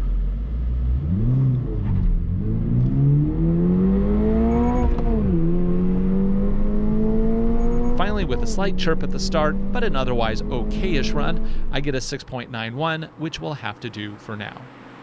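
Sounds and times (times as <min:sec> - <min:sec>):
car engine at full throttle: 0:00.0 - 0:12.2.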